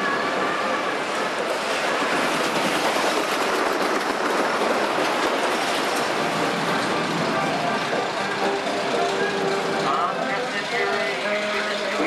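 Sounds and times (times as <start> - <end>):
roller coaster wheel rush: 0.0 - 12.0.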